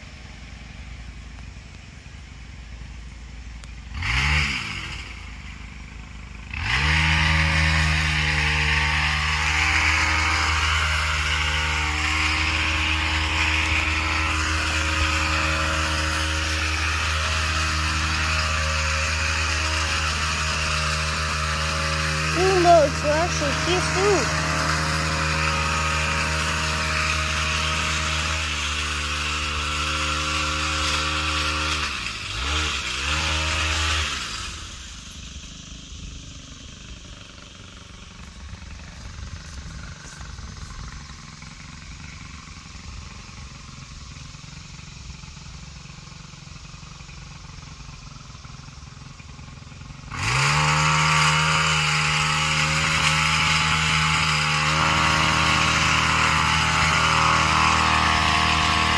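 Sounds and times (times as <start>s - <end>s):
small gas engine running: 0.0s - 58.9s.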